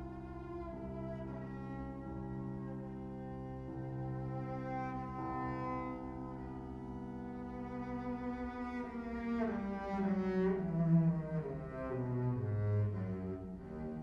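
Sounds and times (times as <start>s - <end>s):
bowed cello: 0.0s - 14.0s
grand piano: 0.0s - 14.0s.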